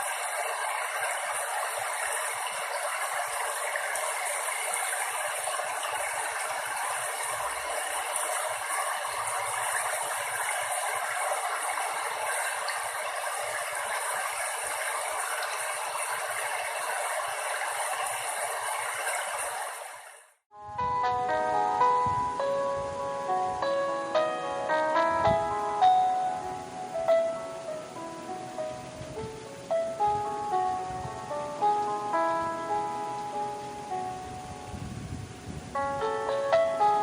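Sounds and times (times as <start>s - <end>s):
rushing water: 0.0s - 20.4s, 21.5s - 37.0s.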